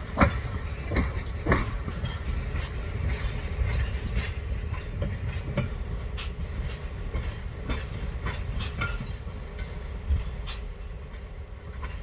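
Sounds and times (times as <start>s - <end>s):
train wheels clicking on track: 0.0s - 12.0s.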